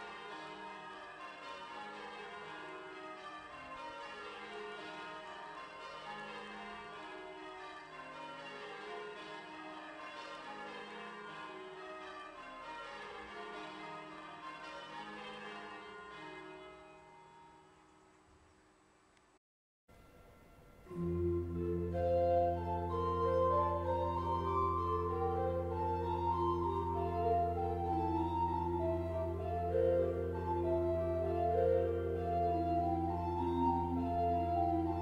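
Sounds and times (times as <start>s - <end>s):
tower bells ringing: 0.0s - 17.7s, 19.9s - 35.0s.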